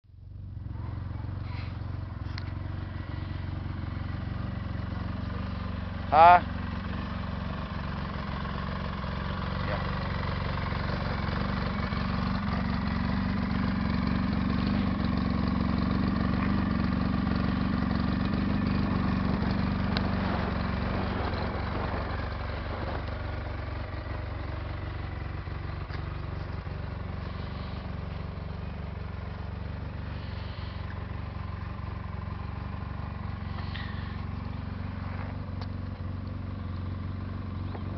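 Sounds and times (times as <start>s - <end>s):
engine idling: 0.0s - 37.9s.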